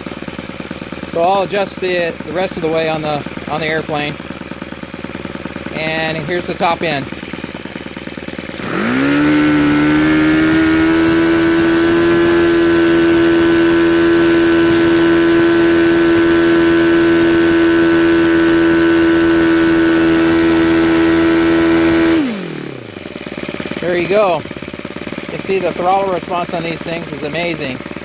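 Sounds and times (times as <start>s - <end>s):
model engine high-pitched drone: 0.0s - 28.0s.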